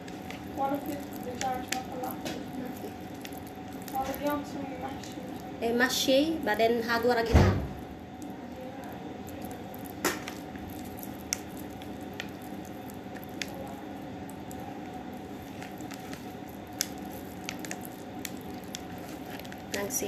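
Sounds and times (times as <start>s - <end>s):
hands squishing wet mixture: 0.0s - 20.0s
steady low hum: 0.0s - 20.0s.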